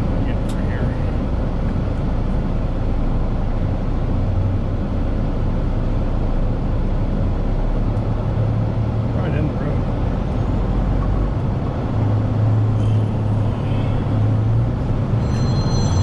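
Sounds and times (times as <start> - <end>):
engine and road rumble in cab: 0.0 - 16.0.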